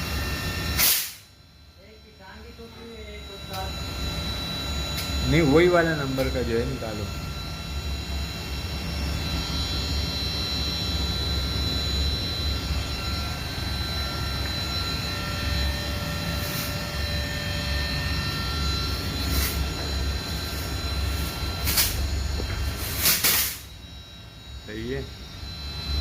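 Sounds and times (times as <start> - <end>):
air conditioner compressor hum: 0.0 - 26.0
high-pitched whine: 0.0 - 26.0.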